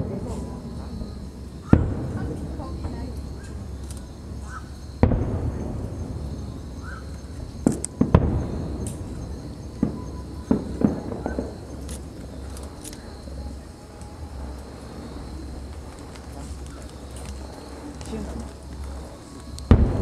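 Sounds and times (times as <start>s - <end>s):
firework shells bursting: 0.8s - 20.0s.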